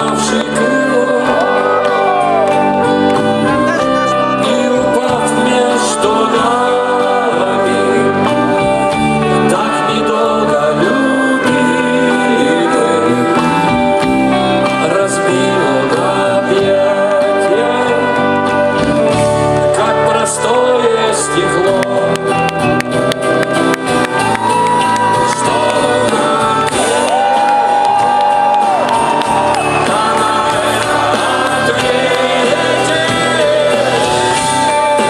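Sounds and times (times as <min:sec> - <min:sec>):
rock band playing instrumental: 0:00.0 - 0:35.0.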